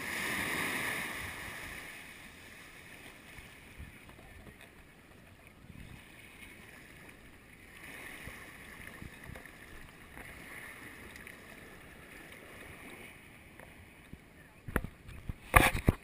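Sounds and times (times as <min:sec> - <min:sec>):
small waves washing over sand: 0:00.0 - 0:14.0.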